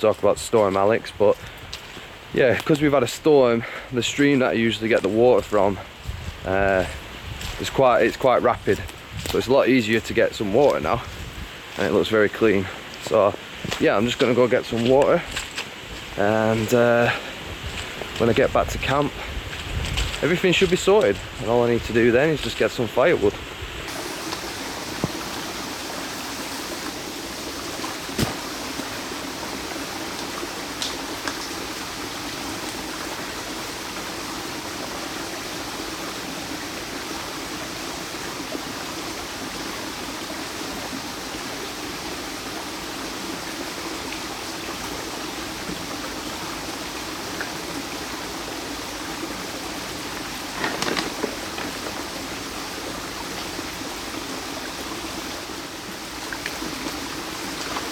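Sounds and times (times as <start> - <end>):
stream rushing: 9.4 - 57.9.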